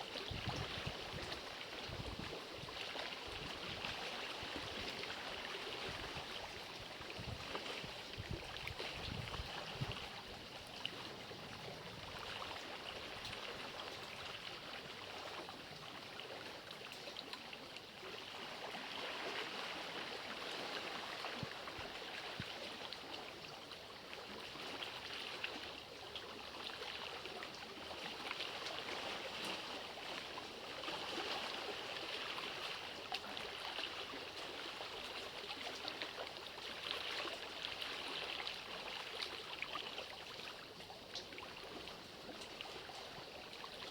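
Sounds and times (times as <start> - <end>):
water trickling and running: 0.0 - 43.9.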